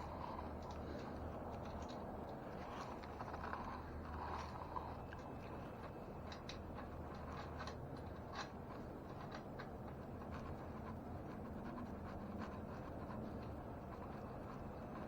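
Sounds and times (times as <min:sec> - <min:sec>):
small parts clicking and scraping: 0:00.0 - 0:15.0
steady low hum: 0:00.0 - 0:15.0.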